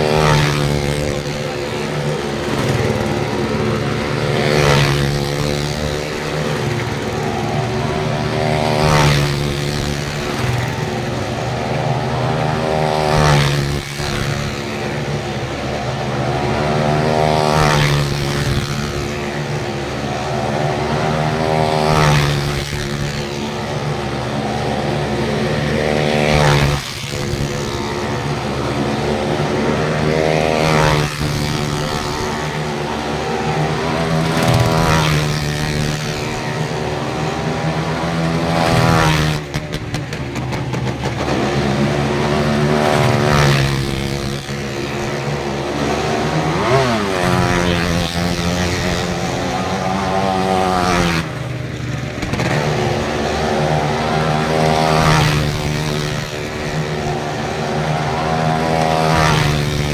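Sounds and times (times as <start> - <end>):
engines revving: 0.0 - 59.9.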